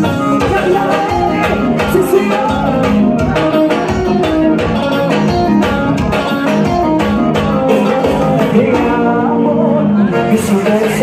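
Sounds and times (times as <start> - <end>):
congas: 0.0 - 11.0
electric bass: 0.0 - 11.0
electric guitar: 0.0 - 11.0
keyboard: 0.0 - 11.0
live band playing: 0.0 - 11.0.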